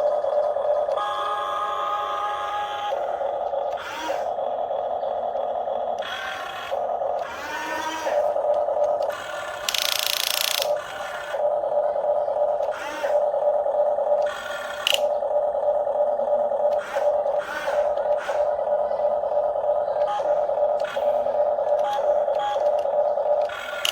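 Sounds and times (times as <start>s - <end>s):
small electric motors whining: 0.0s - 23.9s.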